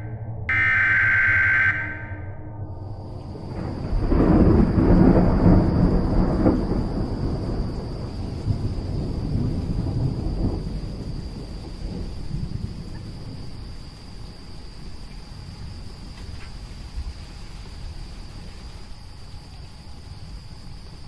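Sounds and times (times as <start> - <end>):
thunder rumbling: 0.5 - 21.0
rain hissing: 3.2 - 21.0.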